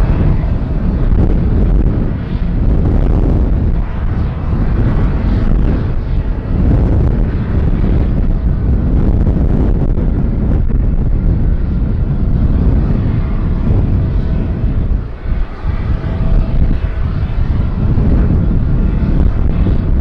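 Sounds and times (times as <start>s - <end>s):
faint engine whine: 0.0s - 20.0s
jet engines rumbling: 0.0s - 20.0s
wind buffeting microphone: 0.0s - 20.0s.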